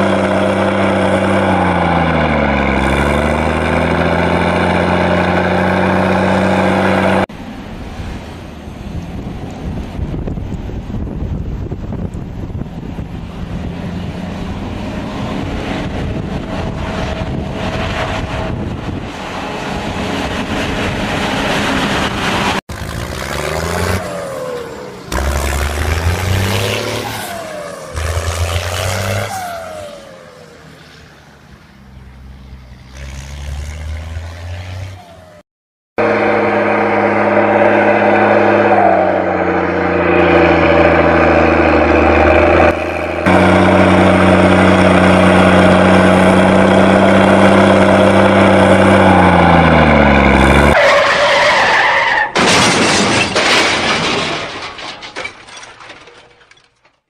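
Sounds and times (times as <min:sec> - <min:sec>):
engines revving: 0:00.0 - 0:07.4, 0:12.4 - 0:31.2, 0:32.1 - 0:35.4, 0:36.0 - 0:52.6
steady engine hum: 0:00.0 - 0:34.3, 0:36.0 - 0:50.8.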